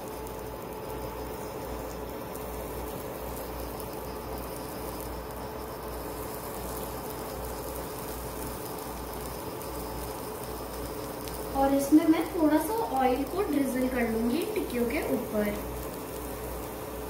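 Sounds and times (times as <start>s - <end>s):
appliance fan hum: 0.0s - 17.0s
low hiss: 0.0s - 17.0s.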